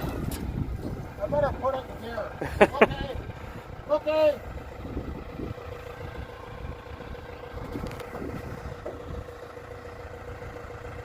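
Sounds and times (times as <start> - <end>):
constant whine: 0.0 - 11.0
tractor engine rumbling: 0.0 - 11.0.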